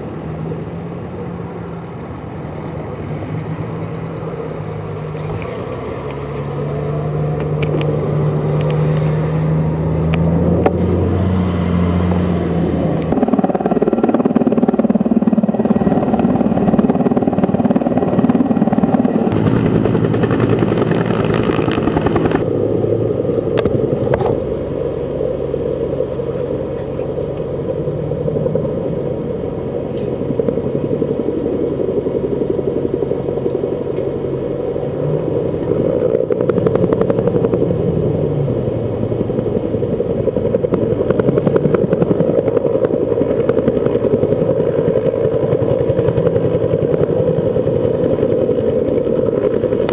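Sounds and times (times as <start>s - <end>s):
helicopter rotor beating: 0.0s - 49.9s.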